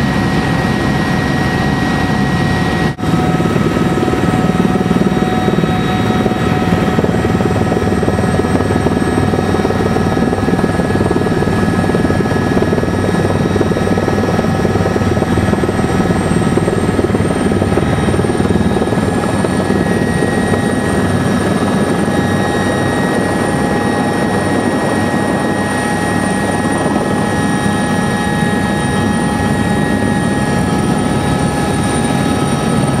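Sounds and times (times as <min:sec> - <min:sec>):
helicopter engine and rotor drone: 0:00.0 - 0:33.0.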